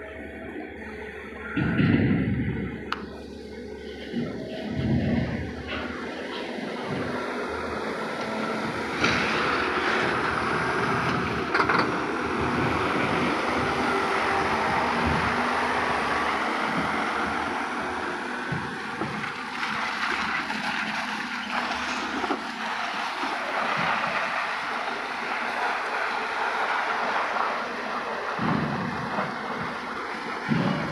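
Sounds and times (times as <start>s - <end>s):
diesel engines running: 0.0s - 30.9s.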